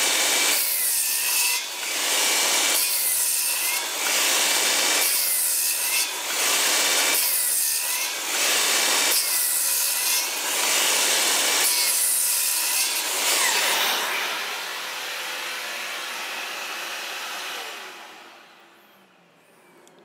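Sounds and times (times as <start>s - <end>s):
circular saw cutting wood: 0.0s - 19.7s
saw motor whine: 1.5s - 19.8s.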